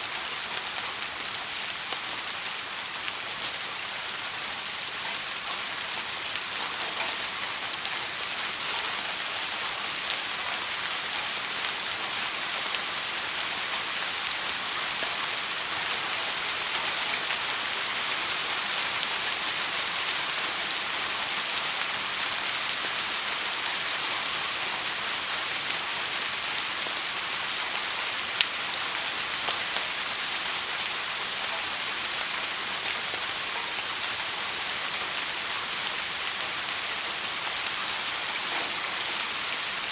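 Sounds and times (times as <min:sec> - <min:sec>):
soft rainfall: 0:00.0 - 0:39.9.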